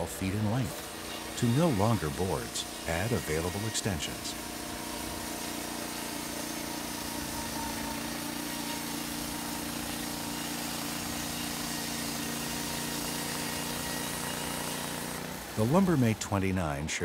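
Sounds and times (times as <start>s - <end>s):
small engine running steadily: 0.0s - 17.0s.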